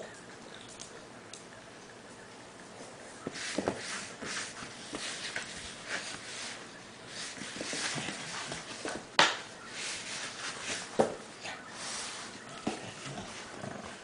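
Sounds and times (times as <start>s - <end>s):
puppy scuffling on tile floor: 1.8s - 14.0s.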